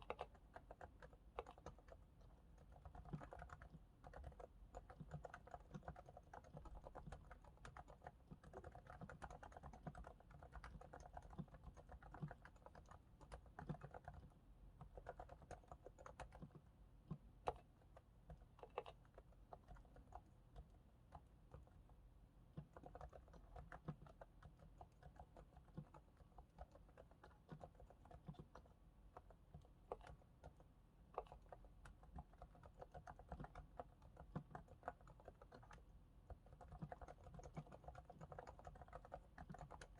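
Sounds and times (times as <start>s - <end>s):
soft muted keyboard typing: 0.0s - 39.9s.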